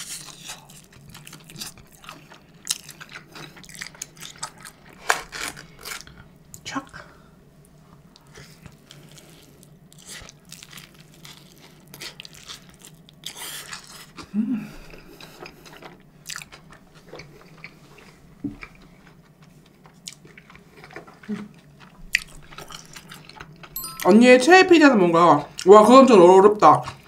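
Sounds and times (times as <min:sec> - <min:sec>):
biting and chewing pizza crust: 0:00.0 - 0:06.4, 0:08.2 - 0:23.7.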